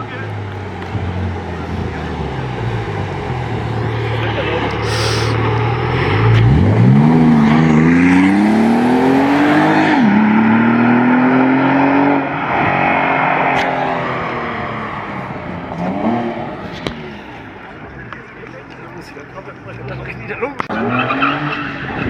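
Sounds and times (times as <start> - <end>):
car engine accelerating: 0.0 - 22.0
engine revving: 0.0 - 22.0.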